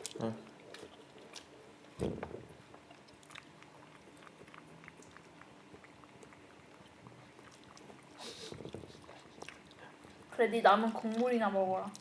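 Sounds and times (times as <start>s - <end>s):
wet chewing and mouth clicks: 0.0s - 12.0s.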